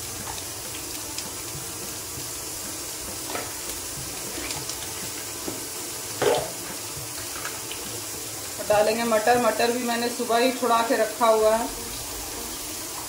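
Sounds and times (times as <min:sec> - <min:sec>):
carrots sizzling in hot fat: 0:00.0 - 0:13.0.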